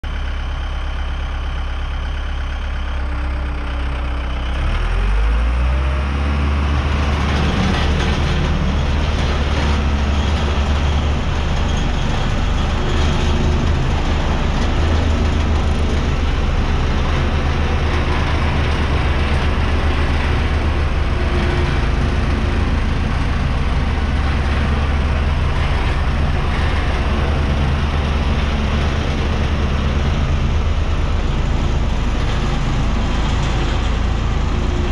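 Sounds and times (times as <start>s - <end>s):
diesel roller engine rumbling: 0.0s - 34.9s.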